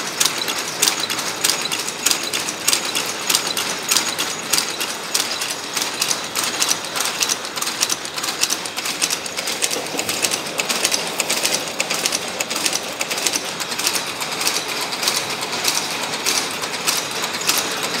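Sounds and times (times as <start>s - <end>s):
machines with metallic clatter: 0.0s - 18.0s.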